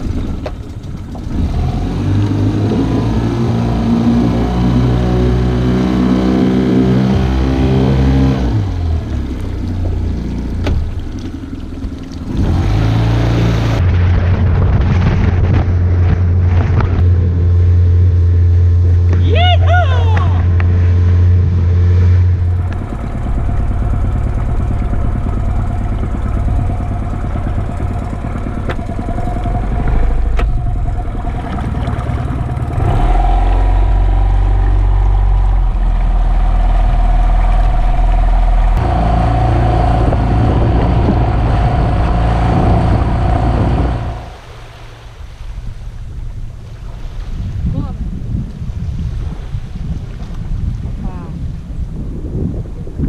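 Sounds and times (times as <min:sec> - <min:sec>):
boat motor running: 0:00.0 - 0:48.6.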